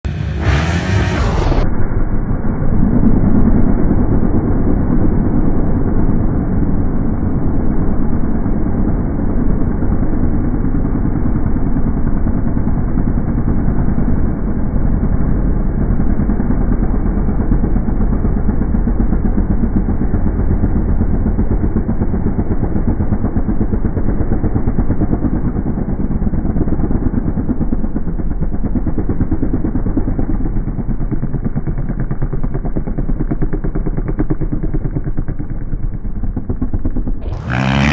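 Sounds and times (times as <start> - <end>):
dirt bike engine running: 0.0 - 37.9.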